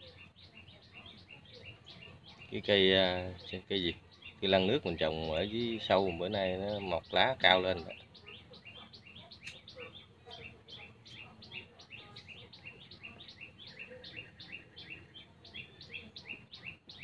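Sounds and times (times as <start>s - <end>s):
faint high bird chirps: 0.0s - 17.0s.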